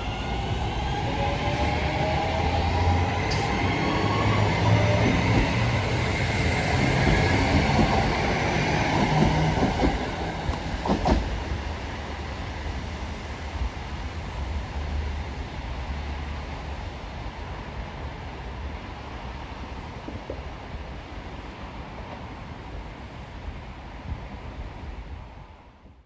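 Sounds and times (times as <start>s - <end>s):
train wheels rumbling on rails: 0.0s - 22.6s.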